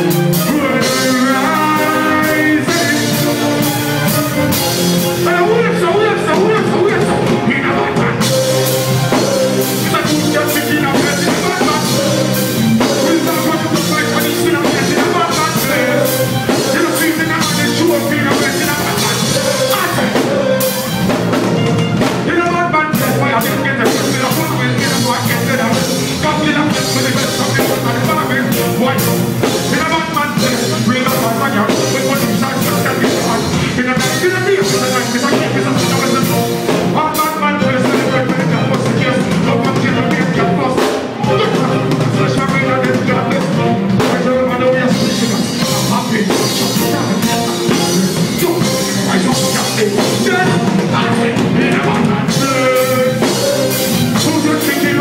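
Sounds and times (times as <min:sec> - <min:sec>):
bass: 0:00.0 - 0:55.0
drum kit: 0:00.0 - 0:55.0
live reggae band playing: 0:00.0 - 0:55.0
person singing: 0:00.0 - 0:55.0.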